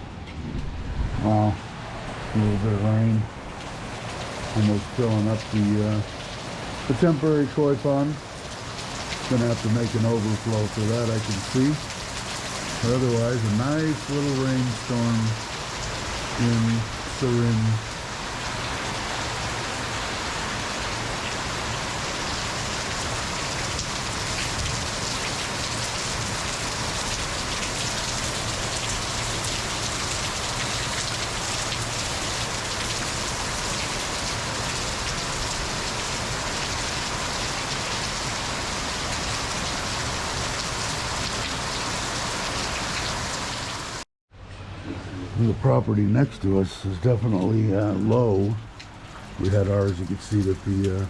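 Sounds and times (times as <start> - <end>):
rain falling steadily: 0.2 - 51.0.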